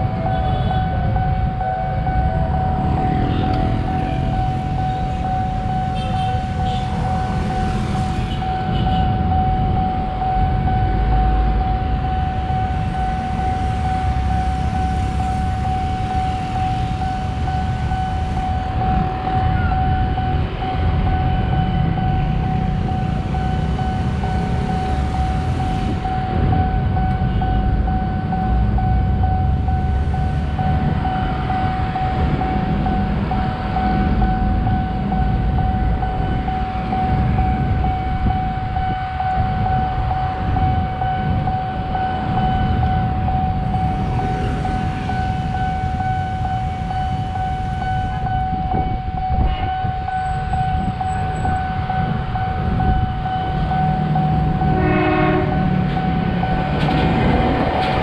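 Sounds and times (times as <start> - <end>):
level crossing alarm tone: 0.0 - 58.0
road traffic: 0.0 - 58.0.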